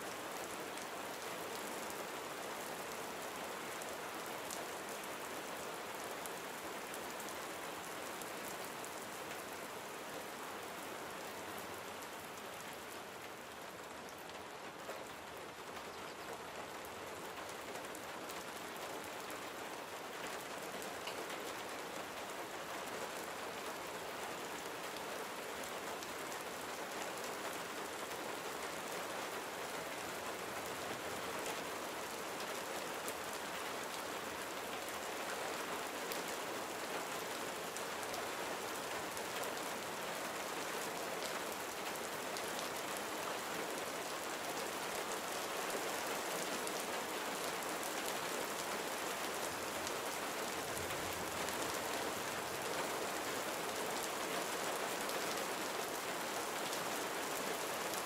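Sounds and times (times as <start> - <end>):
gentle rain hissing: 0.0 - 58.0.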